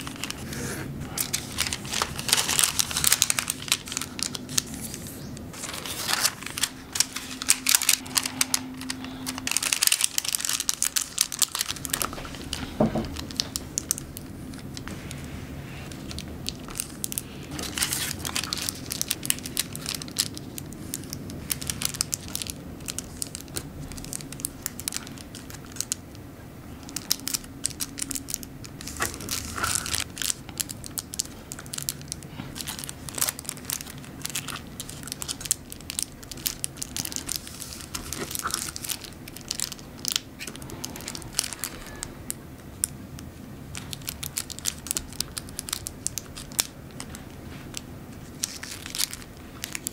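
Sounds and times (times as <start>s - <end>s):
paper being folded and creased: 0.0s - 26.0s, 26.9s - 42.4s, 43.7s - 49.9s.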